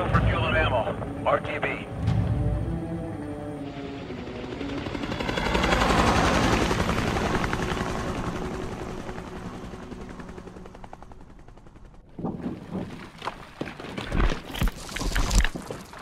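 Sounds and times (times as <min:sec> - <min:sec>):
helicopter rotors beating: 0:00.0 - 0:13.2.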